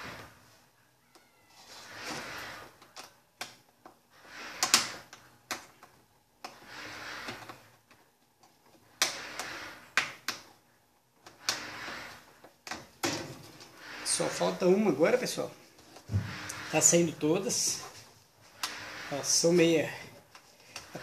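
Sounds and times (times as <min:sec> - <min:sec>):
rustling and scraping: 0:00.0 - 0:21.0.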